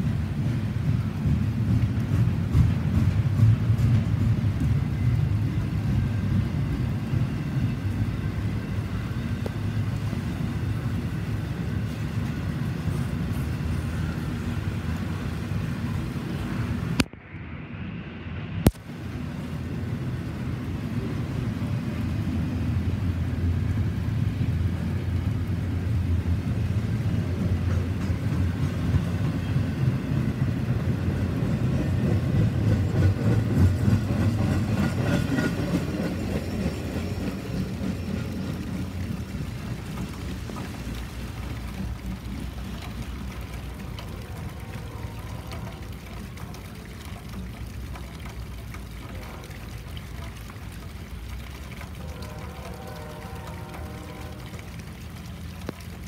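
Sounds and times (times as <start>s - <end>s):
freight train rumbling past: 0.0s - 47.5s, 52.0s - 55.0s.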